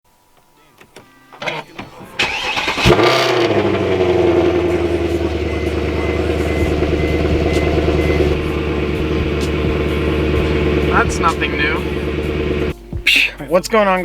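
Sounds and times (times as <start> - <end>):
car engine starting and idling: 0.8 - 12.9.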